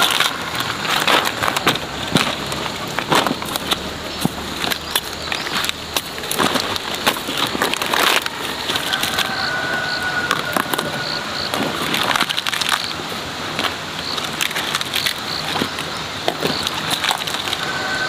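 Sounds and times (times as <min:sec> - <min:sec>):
stalks snapping and crunching: 0:00.0 - 0:17.9
leaves rustling: 0:00.0 - 0:18.0.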